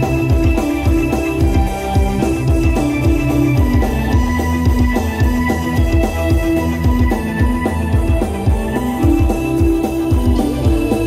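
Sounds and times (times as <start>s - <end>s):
dangdut band music: 0.0s - 11.0s
drum strokes falling in pitch: 0.0s - 11.0s
sustained keyboard notes: 0.0s - 11.0s.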